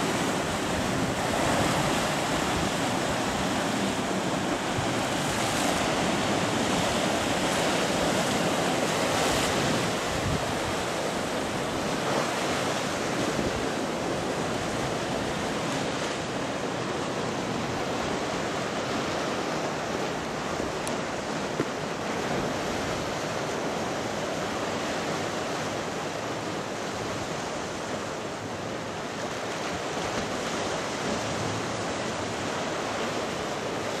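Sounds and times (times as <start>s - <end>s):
surf washing over rocky shore: 0.0s - 34.0s.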